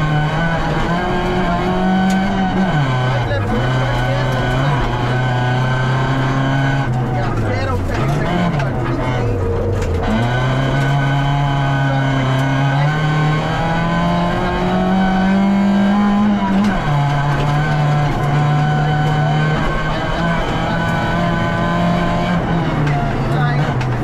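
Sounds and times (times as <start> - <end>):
rally car engine running hard: 0.0 - 24.0.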